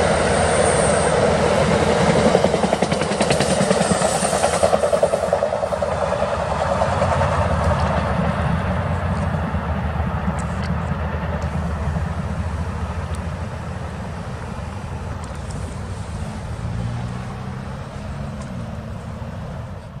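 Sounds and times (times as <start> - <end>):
train rumbling down tracks: 0.0 - 20.0.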